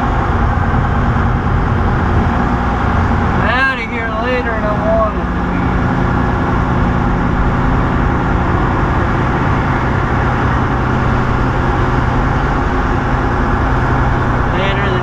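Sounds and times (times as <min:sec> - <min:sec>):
road noise: 0:00.0 - 0:15.0
truck diesel engine running: 0:00.0 - 0:15.0.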